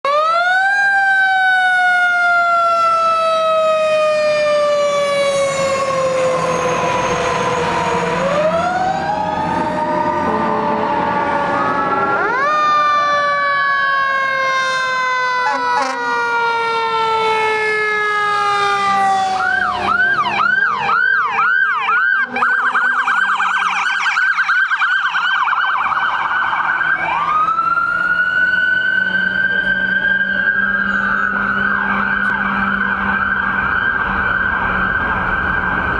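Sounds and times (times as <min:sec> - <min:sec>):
fire engine sirens: 0:00.0 - 0:35.9.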